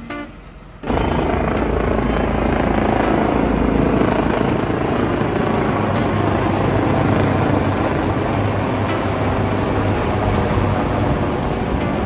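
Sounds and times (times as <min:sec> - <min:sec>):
helicopters flying overhead: 0:00.6 - 0:12.0.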